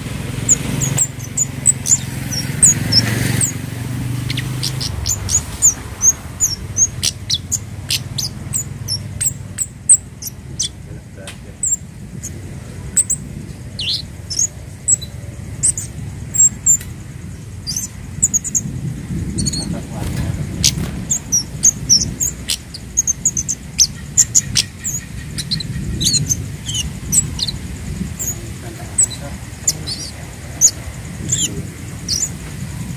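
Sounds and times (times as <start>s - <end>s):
bird chirps and ticks: 0.0s - 32.9s
low rumbling background: 0.0s - 32.9s.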